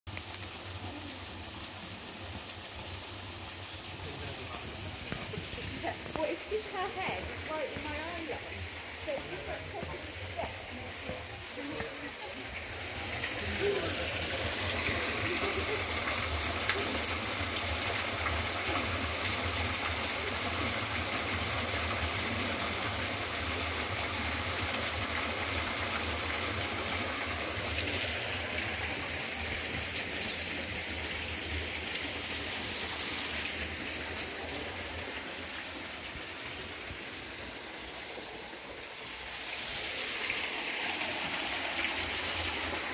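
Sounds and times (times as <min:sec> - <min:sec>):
small waterfall splashing: 0:00.1 - 0:42.9
stream rushing: 0:00.1 - 0:42.9.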